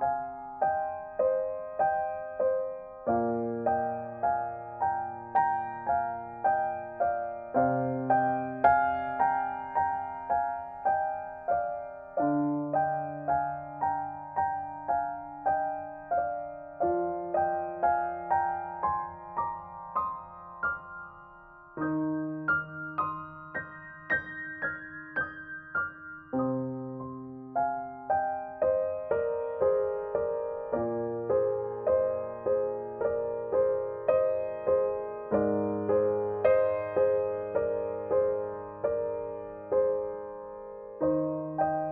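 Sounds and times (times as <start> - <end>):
gentle piano music: 0.0 - 41.9.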